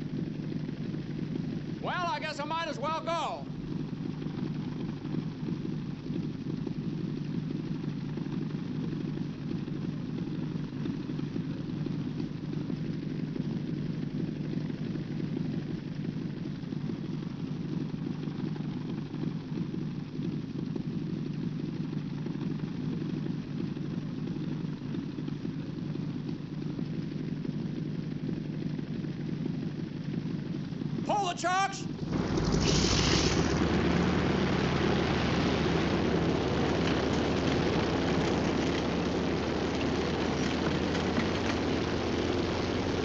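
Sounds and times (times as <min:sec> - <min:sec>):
aircraft engine rumbling: 0:00.0 - 0:43.0.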